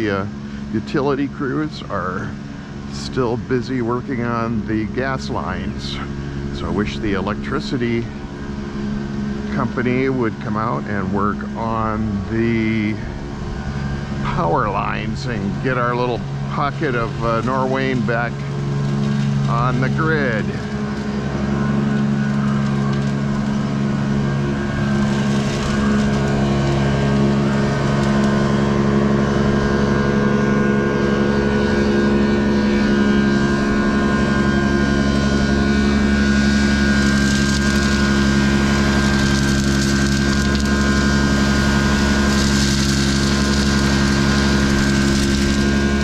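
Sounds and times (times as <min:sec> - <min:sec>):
engine running steadily: 0:00.0 - 0:46.0.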